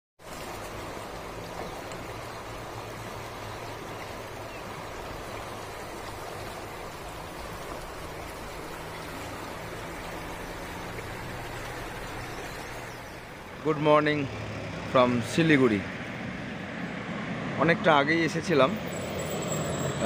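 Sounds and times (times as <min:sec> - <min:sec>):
river rushing over rapids: 0:00.2 - 0:20.0.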